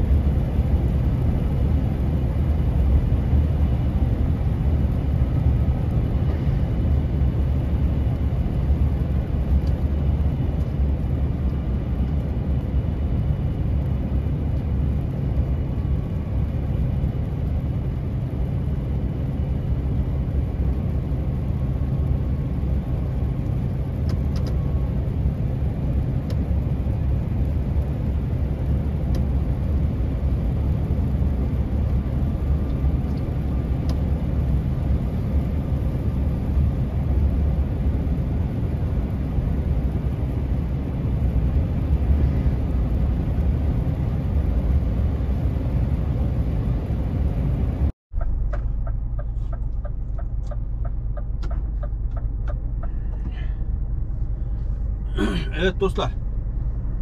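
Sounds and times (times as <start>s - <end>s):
truck engine and tyres droning: 0.0s - 57.0s.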